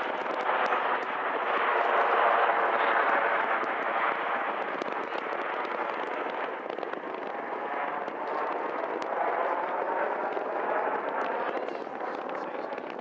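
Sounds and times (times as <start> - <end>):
jet engines overhead: 0.0 - 13.0.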